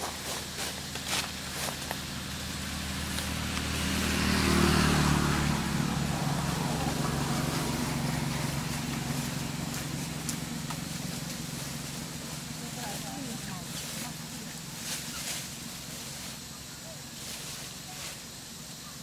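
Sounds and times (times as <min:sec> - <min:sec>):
vehicle engine passing by: 0:00.0 - 0:18.9.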